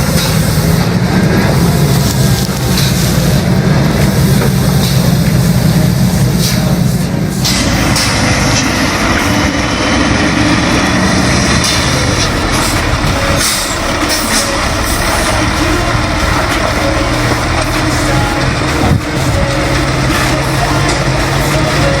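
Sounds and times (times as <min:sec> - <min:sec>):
mechanical and road noise: 0:00.0 - 0:22.0
truck diesel engine running: 0:00.0 - 0:22.0.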